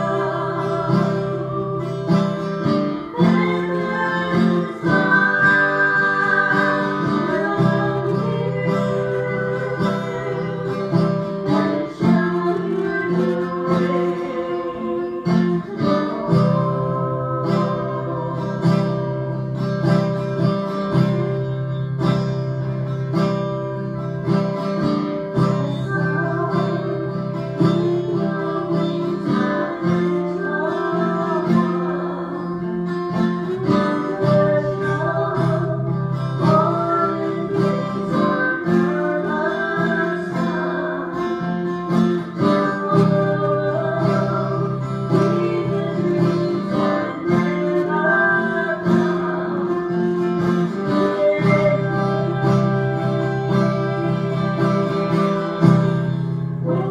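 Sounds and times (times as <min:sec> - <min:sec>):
women singing: 0:00.0 - 0:20.1, 0:25.0 - 0:56.9
acoustic guitar strumming: 0:00.0 - 0:56.9.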